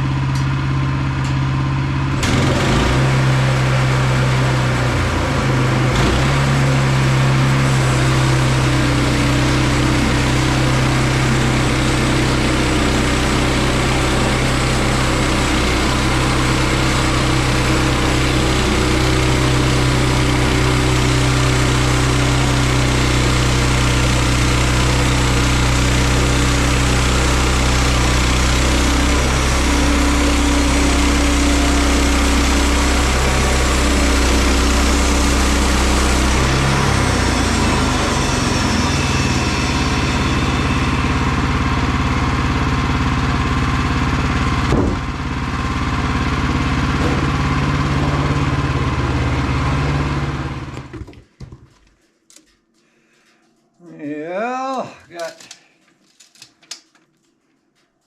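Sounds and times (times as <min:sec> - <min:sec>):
sawmill gas engine running: 0:00.0 - 0:51.0.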